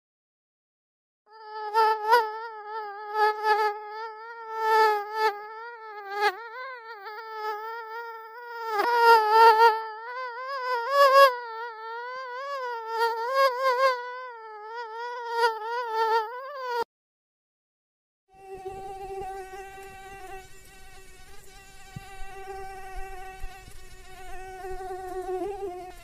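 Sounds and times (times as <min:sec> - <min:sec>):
mosquito wings whining: 0:01.3 - 0:16.9, 0:18.4 - 0:26.0.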